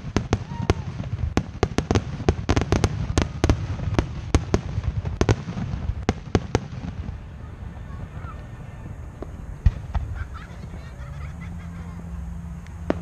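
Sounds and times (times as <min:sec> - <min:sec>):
firework bangs: 0:00.0 - 0:12.0, 0:12.7 - 0:13.0.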